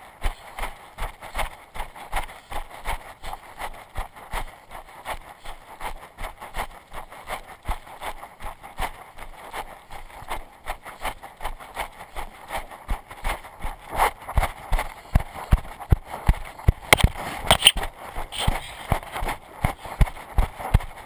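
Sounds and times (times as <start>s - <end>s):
footsteps on dirt trail: 0.0s - 21.0s
rustling and jostling noise: 0.0s - 21.0s.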